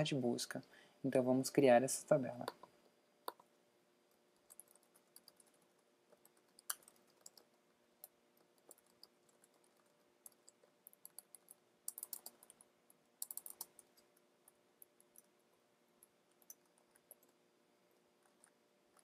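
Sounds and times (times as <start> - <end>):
faint keyboard typing: 2.2 - 19.0.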